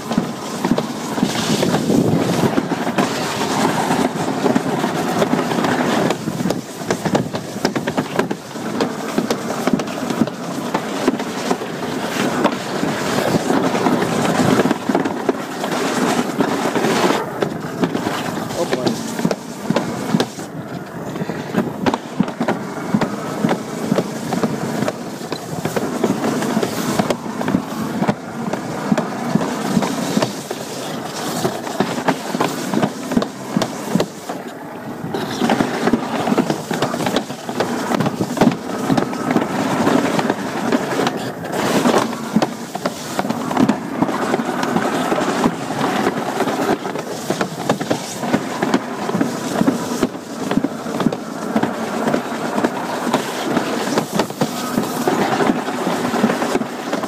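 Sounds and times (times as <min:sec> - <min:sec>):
sled rumbling down a slide: 0:00.0 - 0:57.0.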